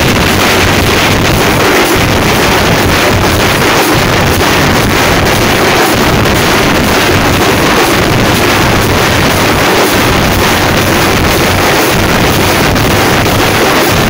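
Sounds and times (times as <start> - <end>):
frame drums beating hard: 0.0 - 14.0.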